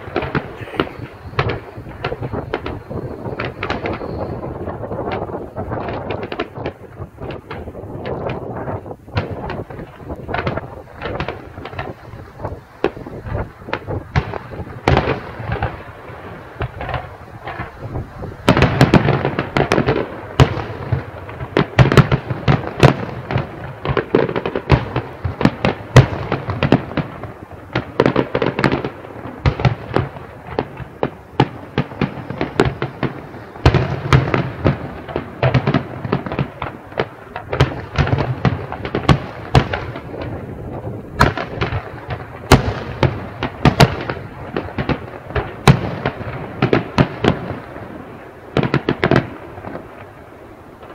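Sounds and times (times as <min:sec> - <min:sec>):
distant fireworks bangs and crackles: 0:00.0 - 0:50.9.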